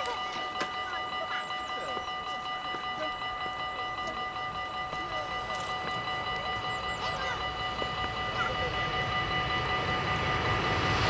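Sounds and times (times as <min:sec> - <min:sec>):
electric train rumble: 0:00.0 - 0:11.0
high train whine: 0:00.0 - 0:11.0.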